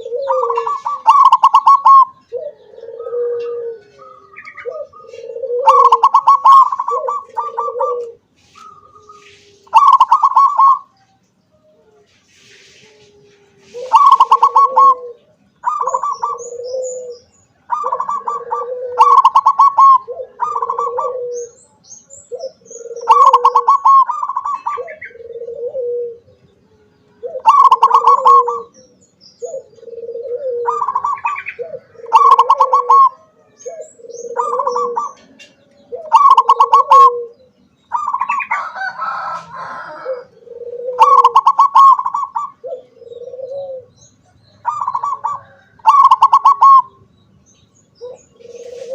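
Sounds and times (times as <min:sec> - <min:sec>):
dove cooing: 0:00.0 - 0:47.1, 0:47.9 - 0:48.9.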